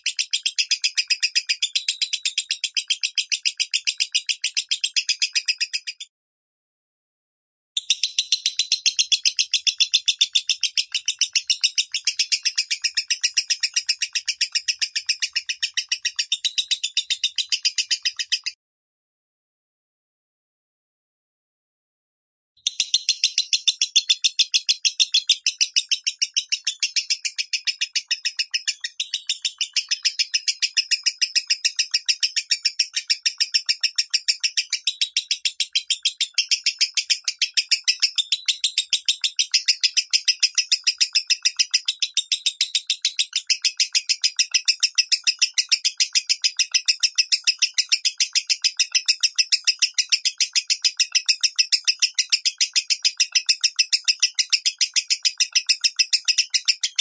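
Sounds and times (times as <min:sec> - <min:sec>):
bird high chirps: 0:00.0 - 0:06.1, 0:07.8 - 0:18.6, 0:22.6 - 0:57.0.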